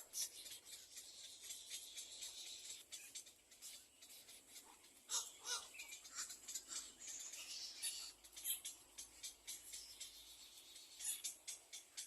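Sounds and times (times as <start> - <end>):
bird chicks begging calls: 0.0 - 12.0.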